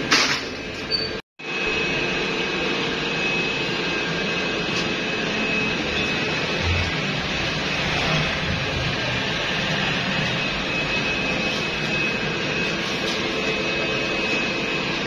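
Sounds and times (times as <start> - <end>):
factory machinery drone: 0.0 - 15.0
high-pitched whine: 0.6 - 15.0.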